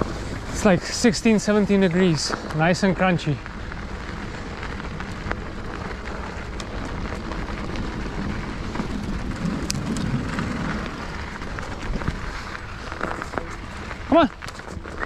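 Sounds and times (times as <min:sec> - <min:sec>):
bike clicks and rattles: 0:00.0 - 0:15.0
bike tyres crunching over snow: 0:00.0 - 0:15.0.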